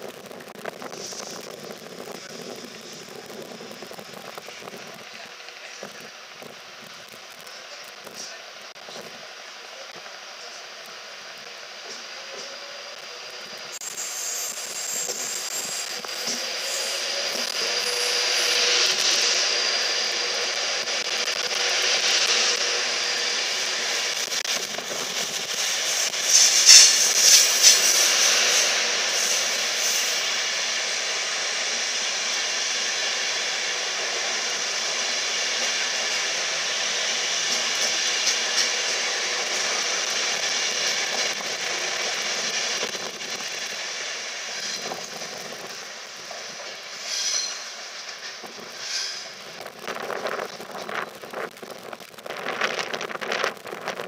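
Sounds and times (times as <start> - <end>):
electric train passing: 0.9 - 51.0.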